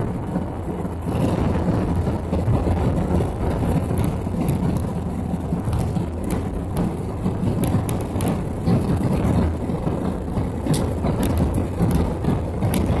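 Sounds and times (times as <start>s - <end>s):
jet engine cabin drone: 0.0s - 13.0s
rushing airflow: 0.0s - 13.0s.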